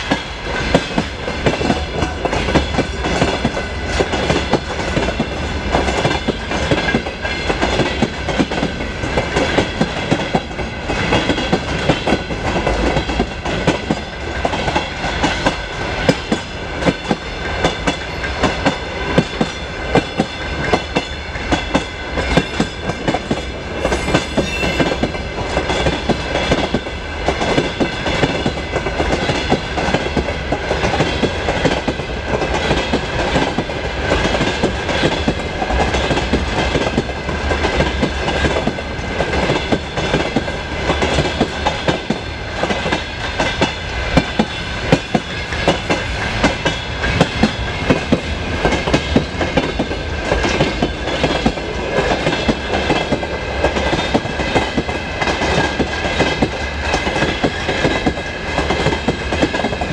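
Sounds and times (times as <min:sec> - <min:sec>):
freight train rumble: 0:00.0 - 0:59.9.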